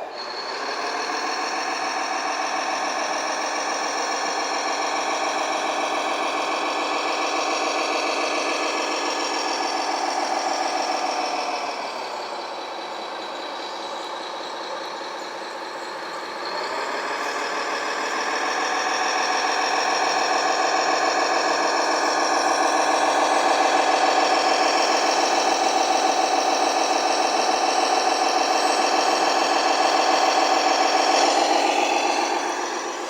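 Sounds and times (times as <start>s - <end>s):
simulated diesel engine from speaker: 0.0s - 33.0s.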